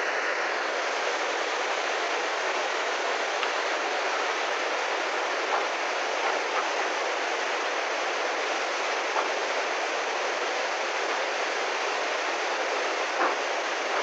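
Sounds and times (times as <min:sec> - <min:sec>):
flood water rushing: 0:00.0 - 0:14.0.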